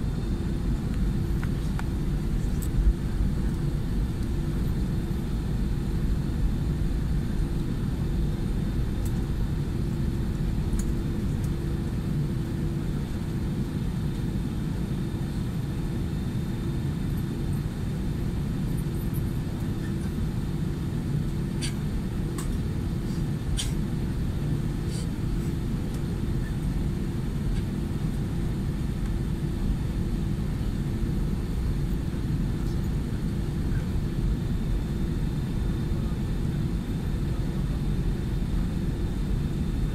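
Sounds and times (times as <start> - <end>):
aircraft cabin engine rumble: 0.0 - 39.9
constant hum: 0.0 - 39.9.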